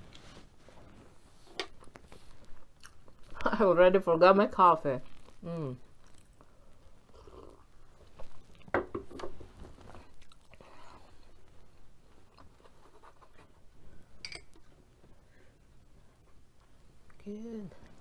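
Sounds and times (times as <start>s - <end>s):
soft chewing: 0.0s - 3.7s, 4.9s - 8.8s, 9.5s - 18.0s.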